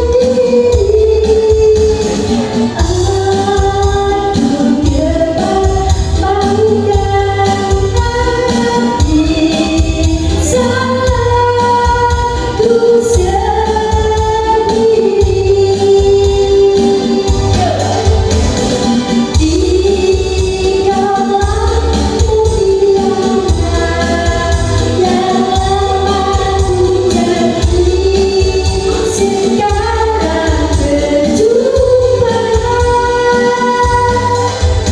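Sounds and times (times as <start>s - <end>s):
sung melody: 0.0s - 34.9s.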